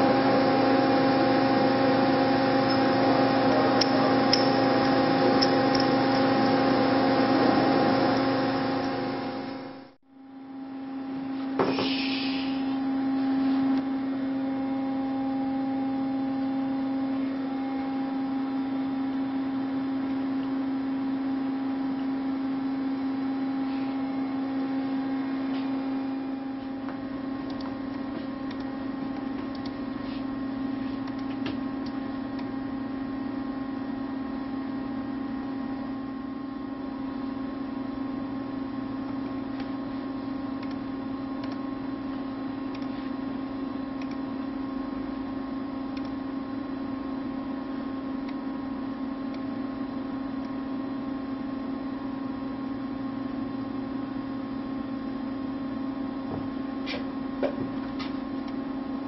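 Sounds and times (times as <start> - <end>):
machine hum: 0.0 - 11.6, 12.3 - 59.0.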